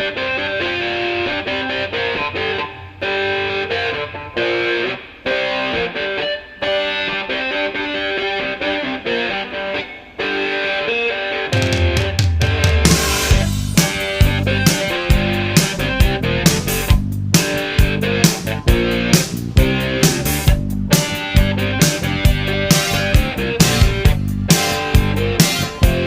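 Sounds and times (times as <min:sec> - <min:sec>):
distorted electric guitar riff: 0:00.0 - 0:26.0.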